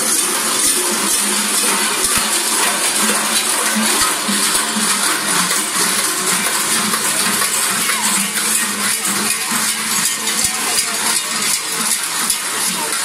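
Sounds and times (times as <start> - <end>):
large bells clanging: 0.0 - 13.0.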